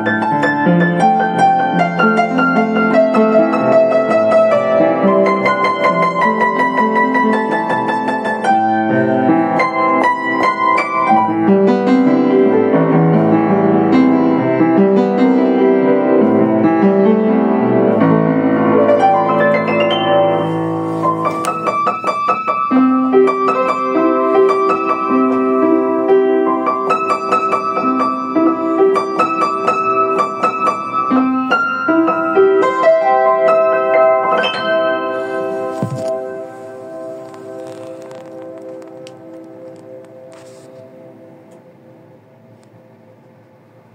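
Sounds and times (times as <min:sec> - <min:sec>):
upright piano playing: 0:00.0 - 0:42.2.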